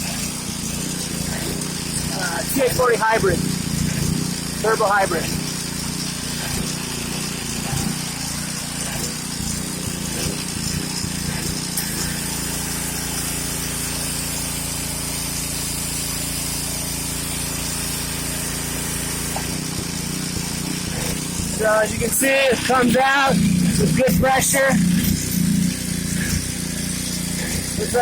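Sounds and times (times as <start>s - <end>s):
pressure washer engine running: 0.0s - 28.0s
water spraying under pressure: 0.0s - 28.0s.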